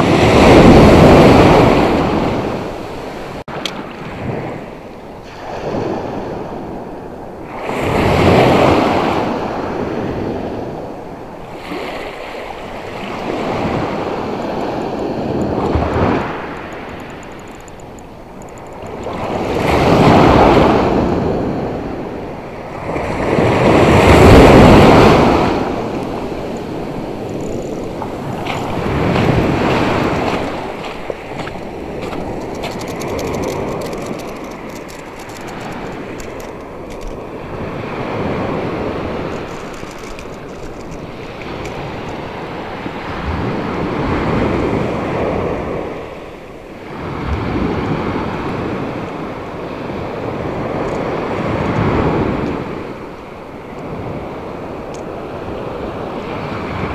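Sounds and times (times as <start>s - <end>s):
surf breaking on a beach: 0.0s - 56.9s.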